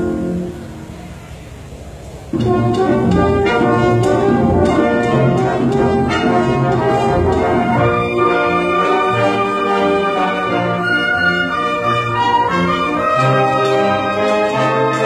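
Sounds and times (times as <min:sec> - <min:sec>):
concert band playing: 0:02.3 - 0:15.0.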